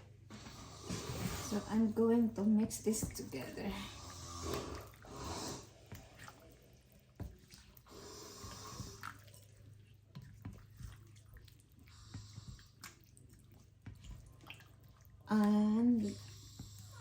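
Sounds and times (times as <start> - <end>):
wet squishing and sloshing: 0.0 - 17.0.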